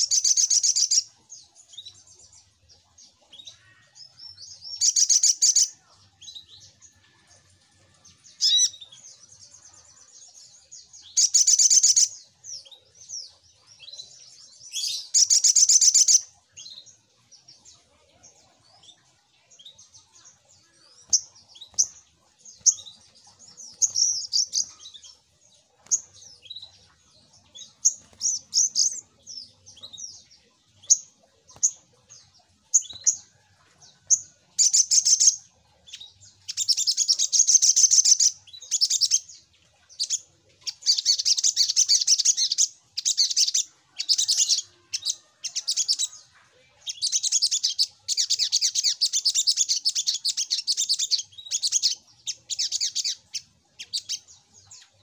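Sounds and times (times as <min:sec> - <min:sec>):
bird chirping and trilling: 0:00.0 - 0:55.0.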